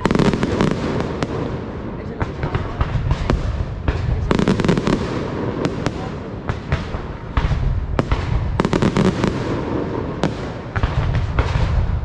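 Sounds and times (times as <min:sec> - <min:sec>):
fireworks bangs and crackling: 0:00.0 - 0:12.0
rumble of shells bursting: 0:00.2 - 0:12.0.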